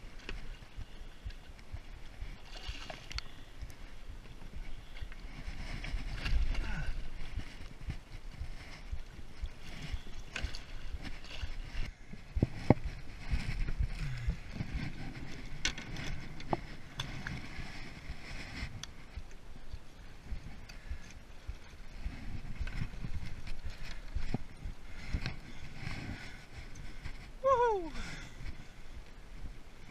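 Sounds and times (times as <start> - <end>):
water lapping against boat hull: 0.0 - 29.8.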